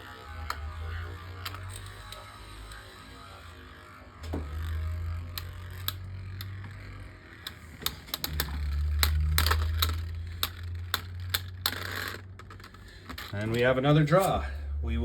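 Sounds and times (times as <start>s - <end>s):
plastic clicks and clacks: 0.0s - 3.0s, 4.2s - 13.7s
spinning tops rumbling: 0.0s - 15.0s.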